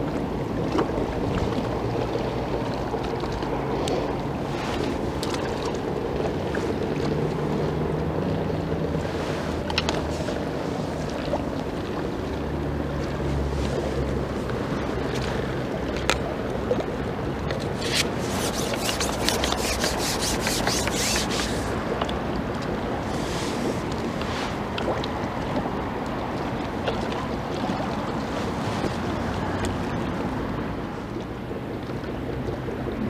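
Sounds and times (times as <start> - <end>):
choppy river water: 0.0 - 33.0.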